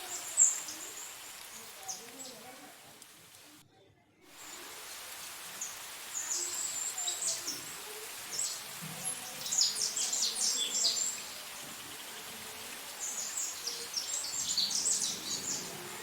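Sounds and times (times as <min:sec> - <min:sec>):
small birds chirping: 0:00.0 - 0:03.6, 0:04.4 - 0:16.0
steady background hiss: 0:00.0 - 0:03.6, 0:04.3 - 0:16.0.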